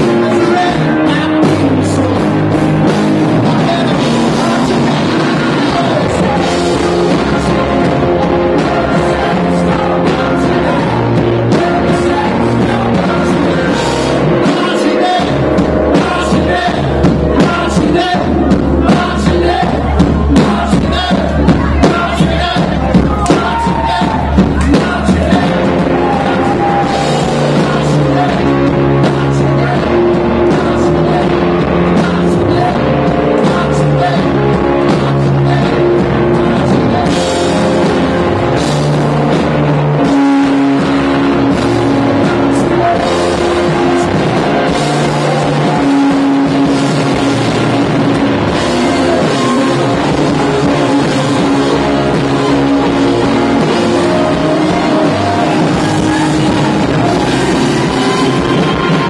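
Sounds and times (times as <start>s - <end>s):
live rock band: 0.0s - 59.0s.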